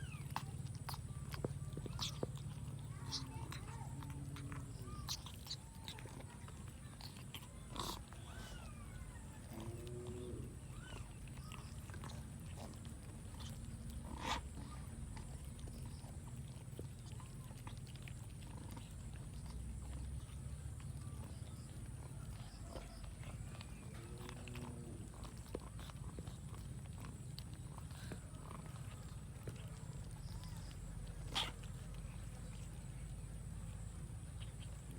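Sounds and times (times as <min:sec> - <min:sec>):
cats chewing: 0:00.0 - 0:34.9.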